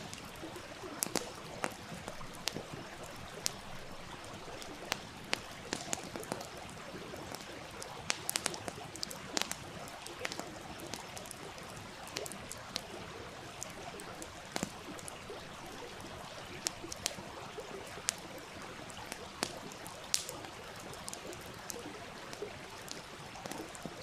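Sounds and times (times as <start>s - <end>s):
campfire crackling and popping: 0.0s - 24.0s
small stream rushing: 0.0s - 24.0s.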